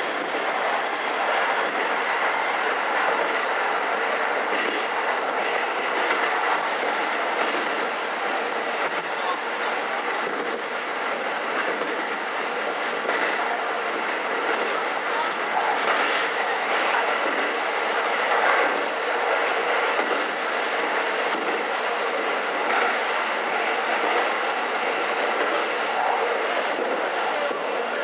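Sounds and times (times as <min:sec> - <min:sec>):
railcar wheels on rail: 0:00.0 - 0:28.0.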